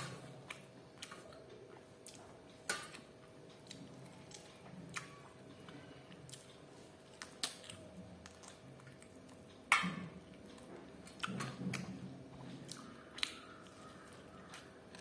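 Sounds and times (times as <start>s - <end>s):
close chewing with clicks: 0.4s - 15.0s.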